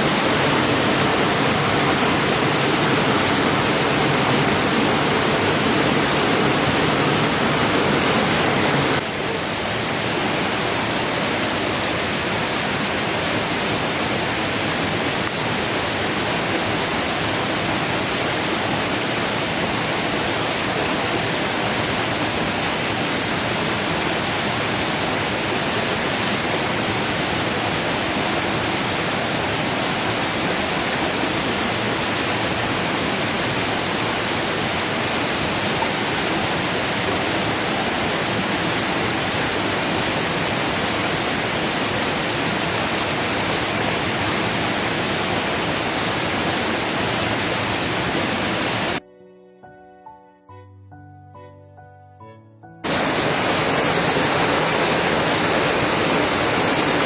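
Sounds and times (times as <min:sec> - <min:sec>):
heavy rain hissing: 0:00.0 - 0:49.0, 0:52.8 - 0:57.0.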